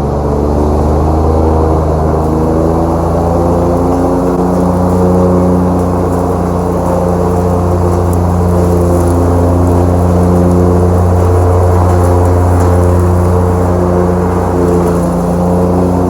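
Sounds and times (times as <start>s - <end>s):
mower engine running: 0.0s - 16.0s.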